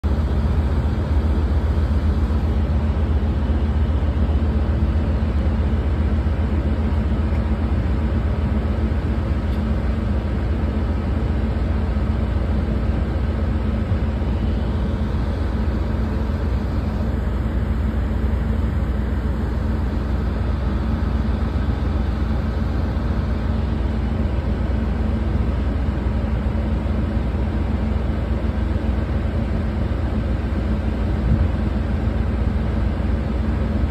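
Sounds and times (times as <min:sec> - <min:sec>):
ship engine droning: 0:00.0 - 0:33.9.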